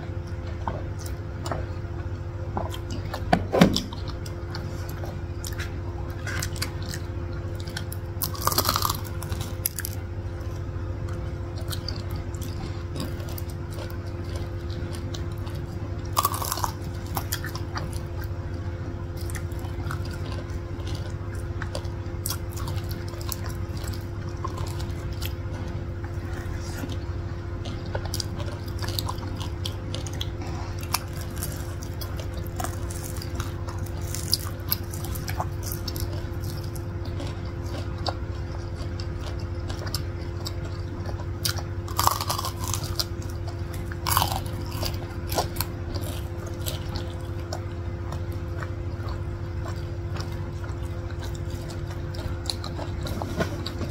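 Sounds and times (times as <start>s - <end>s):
chewing crispy food: 0.0s - 53.9s
steady low hum: 0.0s - 53.9s.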